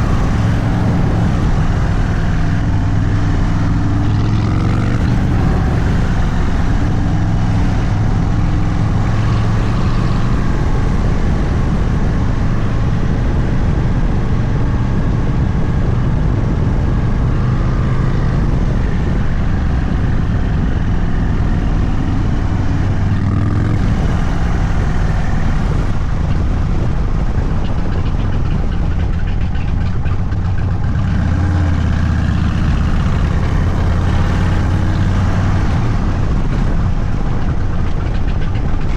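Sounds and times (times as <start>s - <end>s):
motorcycle engine at low revs: 0.0s - 38.9s.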